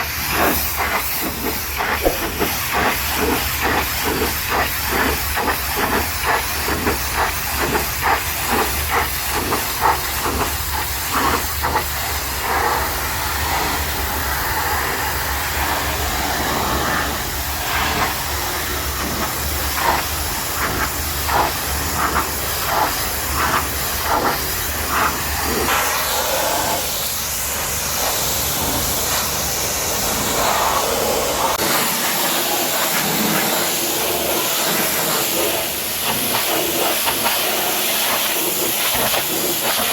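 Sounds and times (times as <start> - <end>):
pressure washer jet hissing: 0.0 - 39.9.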